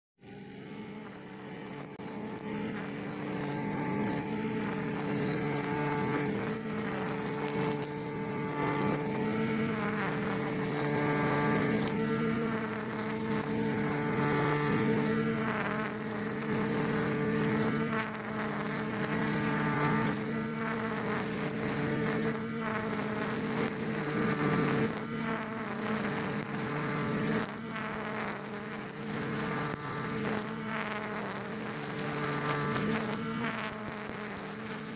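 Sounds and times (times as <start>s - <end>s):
trimmer line cutting grass: 0.2s - 34.9s
brush cutter engine running: 0.3s - 34.9s.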